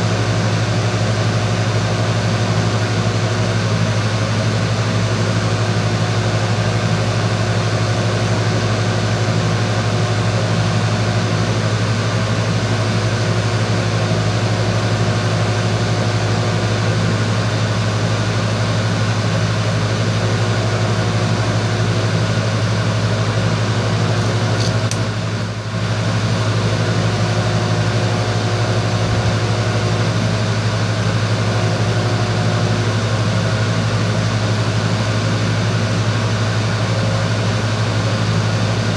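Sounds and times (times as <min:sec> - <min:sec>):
loud buzzing hum: 0:00.0 - 0:38.9.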